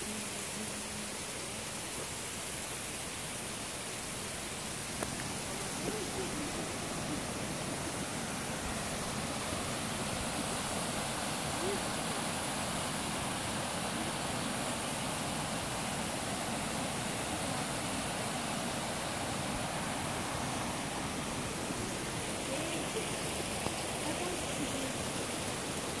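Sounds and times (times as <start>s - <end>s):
water rushing over boulders: 0.0s - 26.0s.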